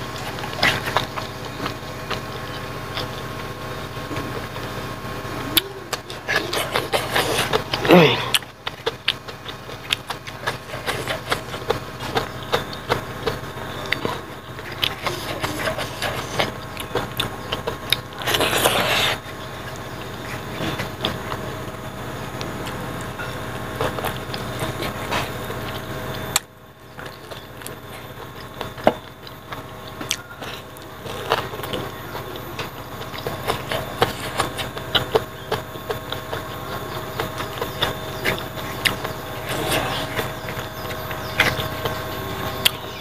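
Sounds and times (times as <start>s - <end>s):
background hum: 0.0s - 43.0s
wet chewing and lip-smacking: 0.0s - 43.0s.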